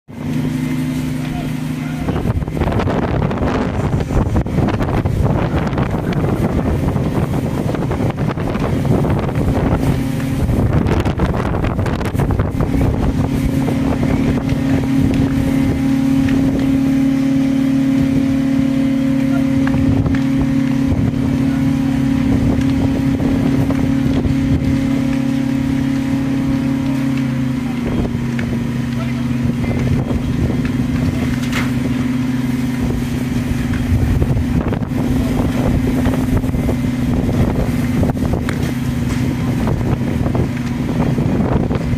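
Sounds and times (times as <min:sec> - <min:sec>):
heavy engine running: 0:00.1 - 0:41.9
rough rushing noise: 0:00.1 - 0:41.9.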